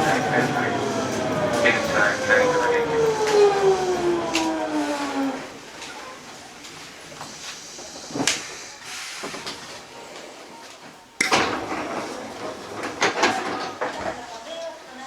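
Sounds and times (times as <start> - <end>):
train sliding doors opening: 0.0 - 14.4.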